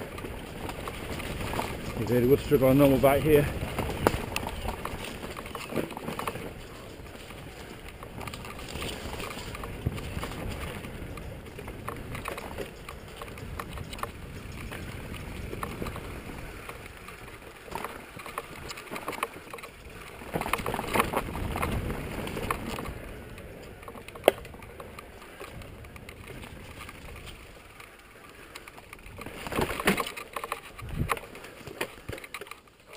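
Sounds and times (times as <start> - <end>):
bike frame rattling: 0.0 - 32.9
bike tyre rumble: 0.0 - 32.9.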